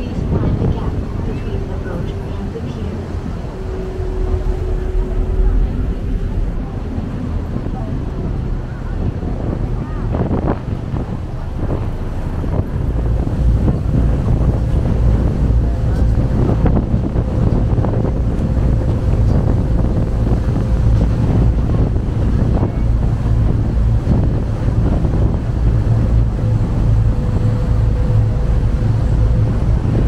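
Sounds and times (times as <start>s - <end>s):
boat engine rumble: 0.0s - 30.0s
water rushing along hull: 0.0s - 30.0s
wind buffeting microphone: 0.0s - 30.0s.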